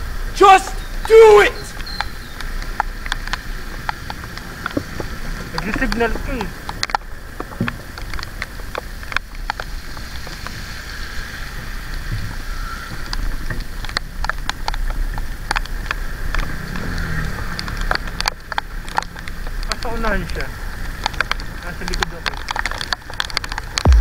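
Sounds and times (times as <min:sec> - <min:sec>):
raindrops tapping on camera: 0:00.0 - 0:24.0.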